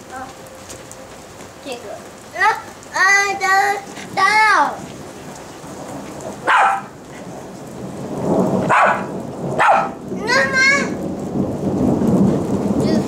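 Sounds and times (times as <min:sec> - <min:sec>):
steady rain falling: 0:00.0 - 0:13.0
low thunder rumble: 0:01.8 - 0:13.0.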